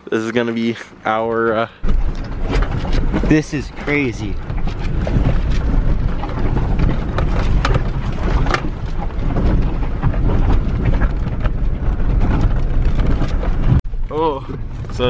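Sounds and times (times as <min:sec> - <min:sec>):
tyres rumbling on rocky road: 0:00.0 - 0:15.0.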